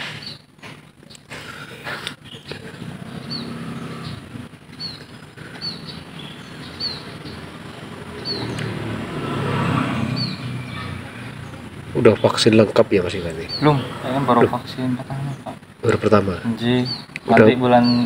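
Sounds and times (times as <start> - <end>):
motor vehicle engine hum: 0.0 - 18.0.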